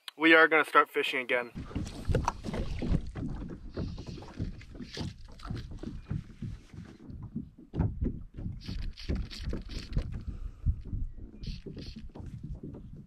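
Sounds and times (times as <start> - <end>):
low knocks: 1.5 - 13.0
water lapping against kayak hull: 1.5 - 13.0.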